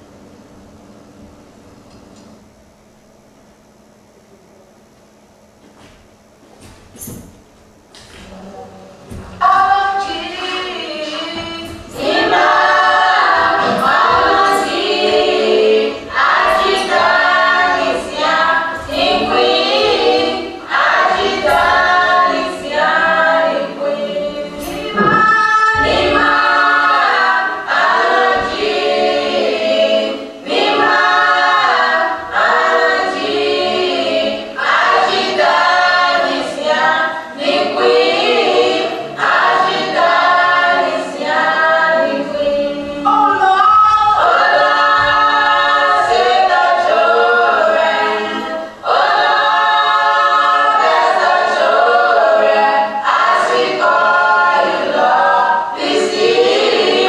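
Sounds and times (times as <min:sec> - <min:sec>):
choir singing: 0:08.3 - 0:57.0.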